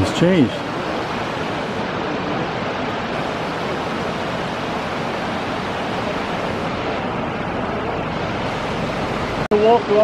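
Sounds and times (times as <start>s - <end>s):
waterfall roar: 0.0s - 10.0s.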